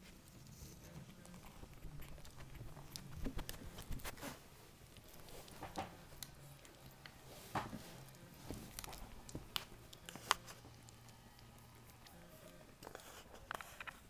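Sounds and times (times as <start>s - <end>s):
faint steady hum: 0.0s - 14.0s
puppies rustling on blankets: 0.0s - 14.0s.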